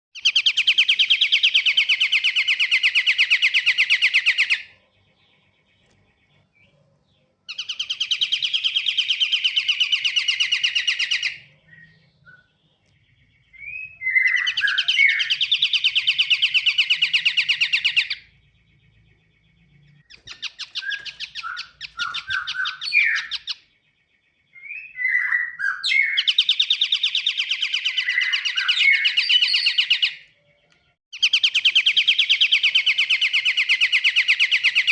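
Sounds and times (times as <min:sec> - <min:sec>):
bird chirps: 0:00.2 - 0:34.9
bird trilling: 0:00.2 - 0:34.9.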